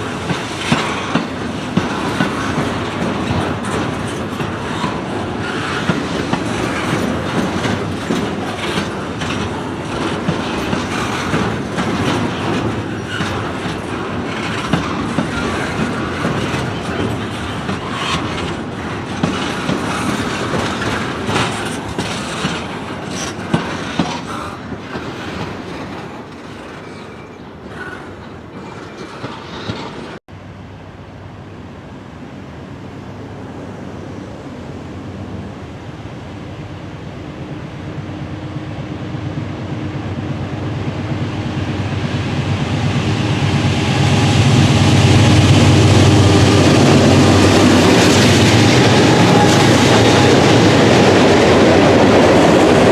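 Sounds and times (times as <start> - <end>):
diesel locomotive engine drone: 0.0 - 52.9.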